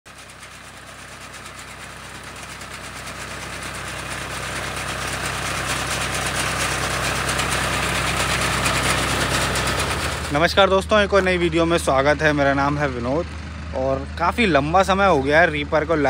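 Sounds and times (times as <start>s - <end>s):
tractor diesel engine running: 0.1s - 16.0s.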